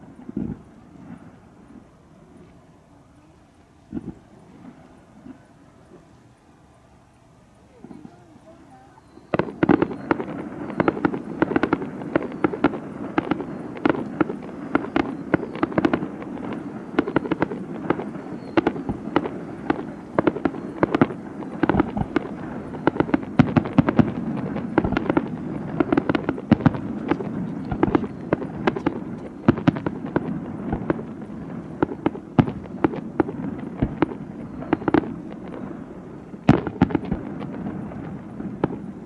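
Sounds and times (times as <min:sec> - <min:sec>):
fireworks bangs and crackles: 0:00.0 - 0:06.1, 0:07.2 - 0:39.0.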